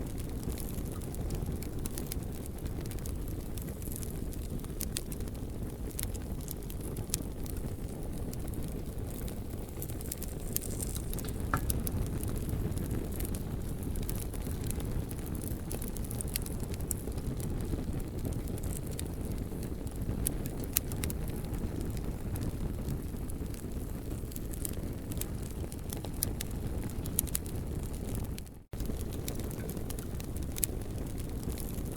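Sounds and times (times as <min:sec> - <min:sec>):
campfire crackling and popping: 0:00.0 - 0:31.9
fire low rumble: 0:00.0 - 0:31.9.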